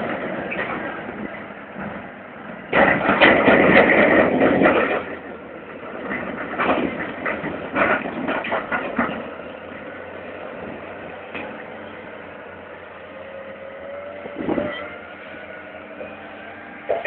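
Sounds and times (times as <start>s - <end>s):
diesel earthmoving machinery running: 0.0s - 17.0s.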